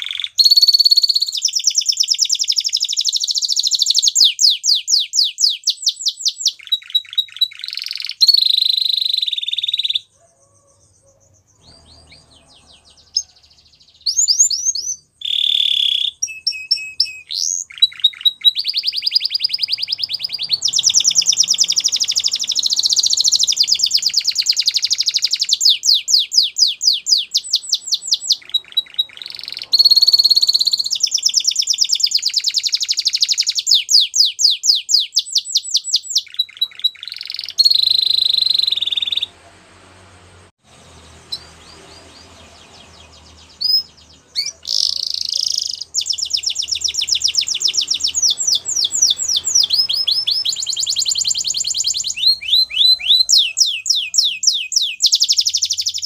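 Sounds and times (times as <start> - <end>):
canary singing trills: 0.0 - 40.0, 40.7 - 56.0.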